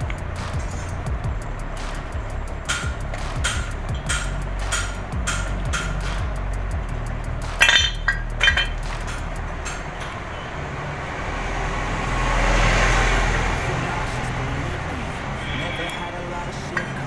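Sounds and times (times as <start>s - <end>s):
hip-hop music: 0.0s - 17.0s.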